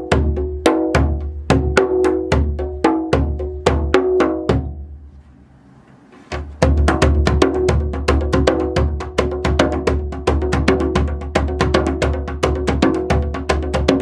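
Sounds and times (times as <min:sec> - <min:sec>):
djembe drumming: 0:00.0 - 0:04.9, 0:06.3 - 0:14.0.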